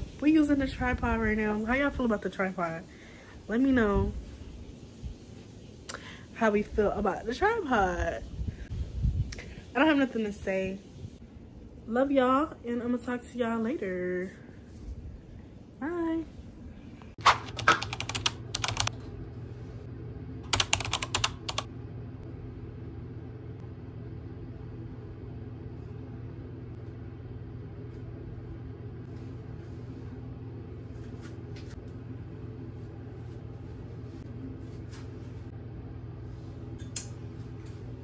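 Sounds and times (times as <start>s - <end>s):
steady low hum: 0.0s - 17.2s, 17.8s - 38.0s.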